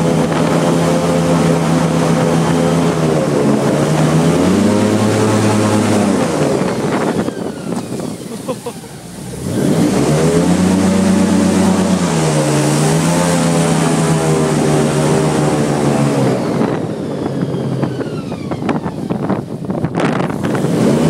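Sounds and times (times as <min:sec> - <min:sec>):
airboat engine at high throttle: 0:00.0 - 0:21.0
rush of prop wash: 0:00.0 - 0:21.0.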